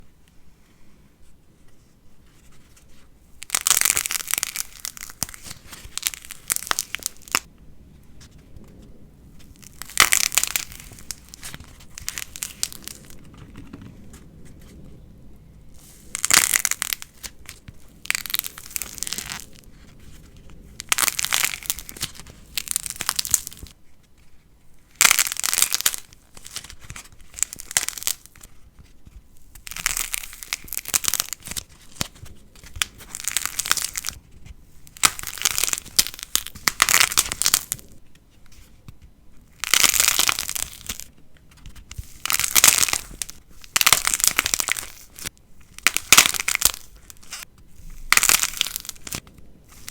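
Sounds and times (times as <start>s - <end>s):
plasticine crackling: 2.3s - 15.0s, 15.7s - 49.9s.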